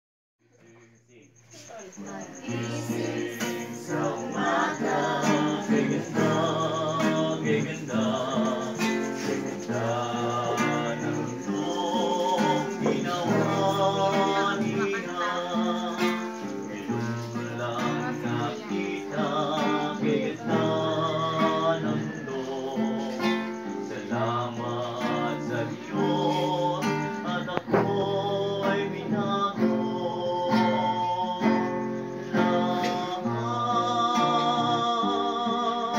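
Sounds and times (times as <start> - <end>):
acoustic guitar: 0.4 - 35.9
young voices singing together: 1.5 - 35.9.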